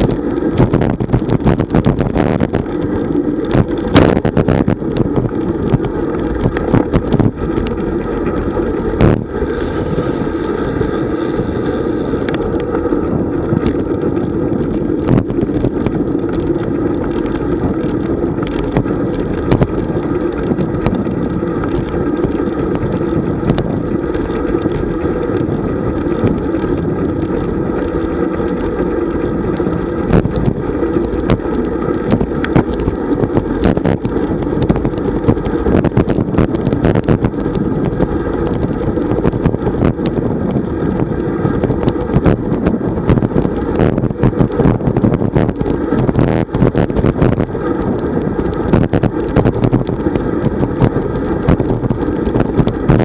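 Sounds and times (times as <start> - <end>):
bicycle knocks and rattles: 0.0 - 53.0
bicycle road rumble: 0.0 - 53.0
wind rushing over microphone: 0.0 - 53.0.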